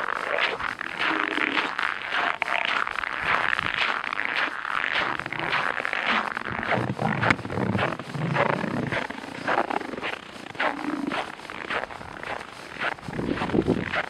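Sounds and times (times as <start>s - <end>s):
boots crunching on snow: 0.0s - 14.0s.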